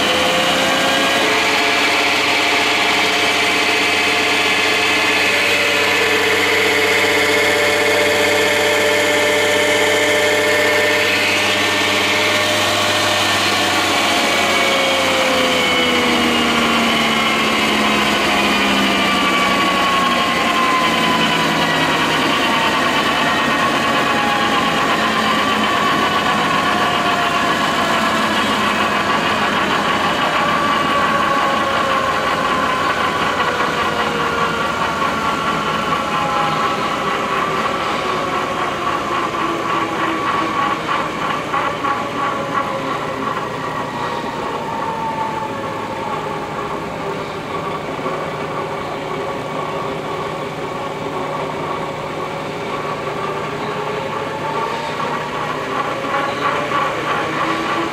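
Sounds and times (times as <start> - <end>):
drill press motor whine: 0.0 - 57.9.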